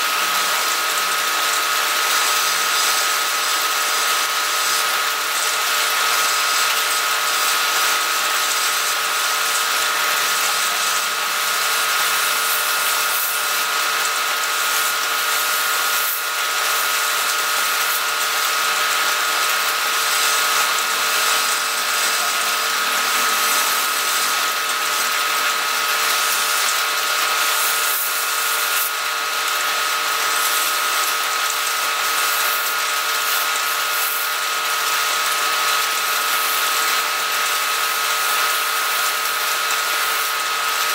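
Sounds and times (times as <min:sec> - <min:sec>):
wood lathe whine: 0:00.0 - 0:40.9.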